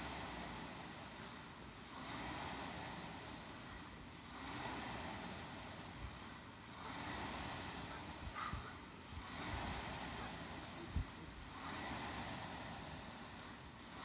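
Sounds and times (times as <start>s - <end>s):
rowing machine fan whooshing: 0.0s - 14.0s.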